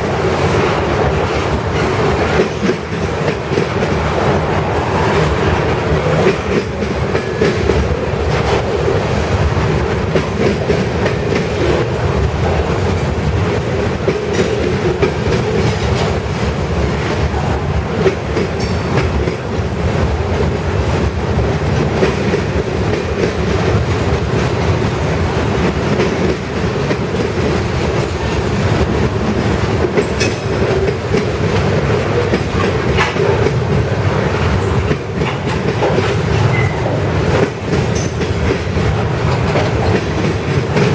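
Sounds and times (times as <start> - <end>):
train wheels clattering over rails: 0.0 - 40.9.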